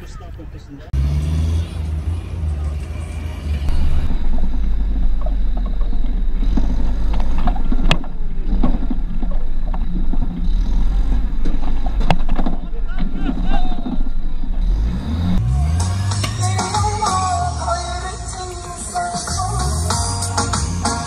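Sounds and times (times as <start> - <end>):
off-road vehicle engine rumbling: 0.0 - 21.0.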